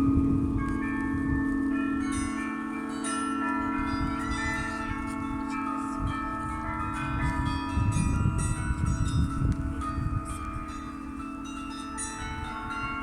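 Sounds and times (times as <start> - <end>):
deep hum of large bell: 0.0 - 13.0
small bells struck in clusters: 0.0 - 13.0.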